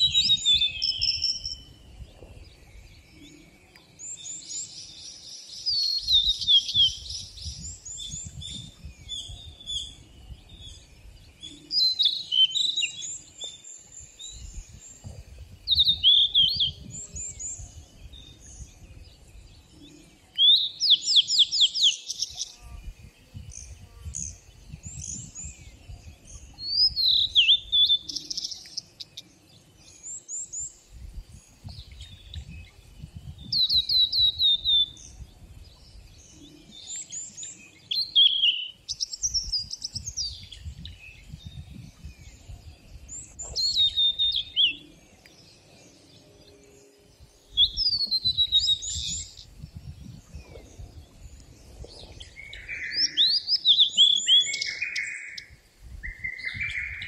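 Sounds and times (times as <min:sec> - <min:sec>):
songbirds whistling: 0:00.0 - 0:57.0.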